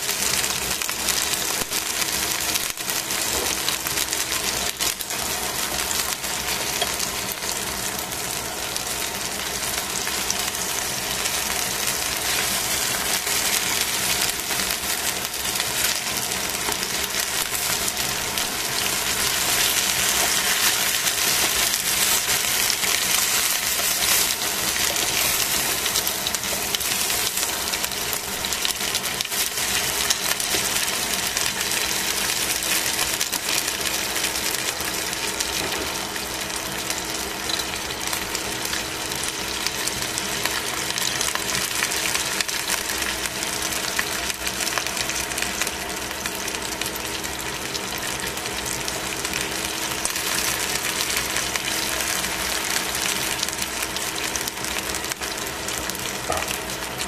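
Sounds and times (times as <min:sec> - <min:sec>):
chicken wings sizzling in oil: 0:00.0 - 0:57.0.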